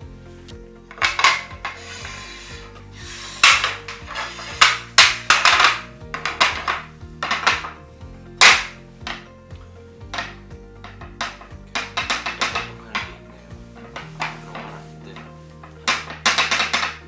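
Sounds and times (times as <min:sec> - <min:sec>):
background music: 0:00.0 - 0:17.0
metal table frame clacking: 0:00.8 - 0:17.0.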